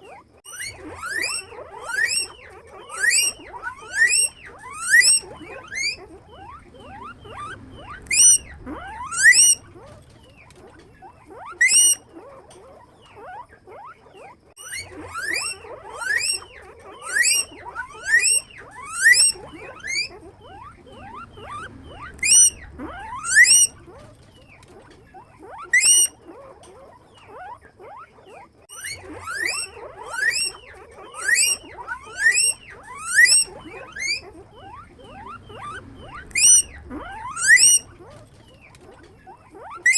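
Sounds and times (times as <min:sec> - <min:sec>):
guinea pig wheeking: 0:00.0 - 0:39.9.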